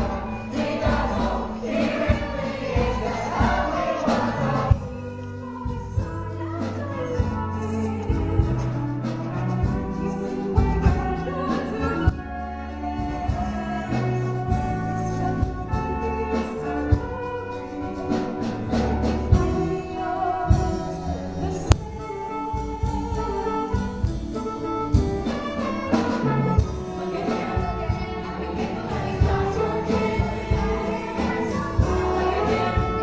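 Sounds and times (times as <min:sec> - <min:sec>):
instrumental musical theatre music: 0:00.0 - 0:33.0.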